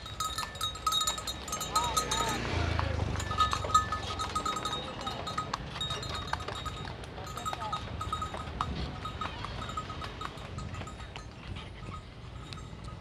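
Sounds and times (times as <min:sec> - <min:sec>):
horse harness bell ringing: 0:00.0 - 0:13.0.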